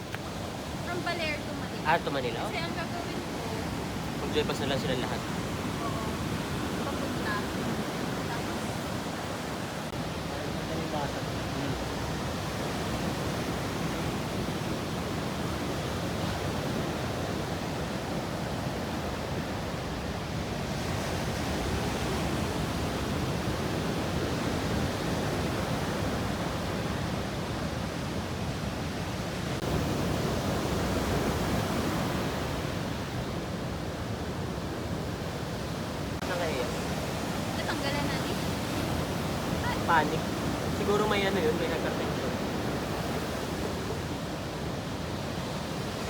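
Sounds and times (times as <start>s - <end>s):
ocean surf breaking: 0.0s - 46.0s.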